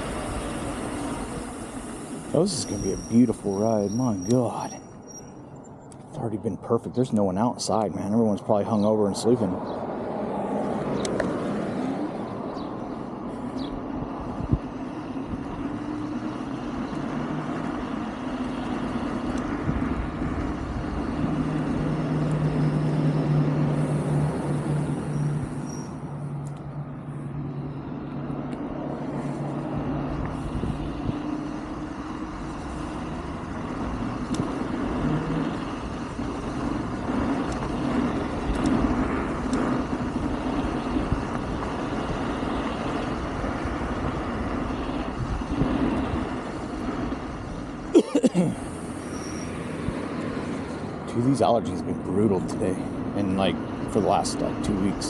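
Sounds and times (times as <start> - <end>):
electric scooter motor hum: 0.0 - 6.0, 9.5 - 55.0
riding noise: 0.0 - 55.0.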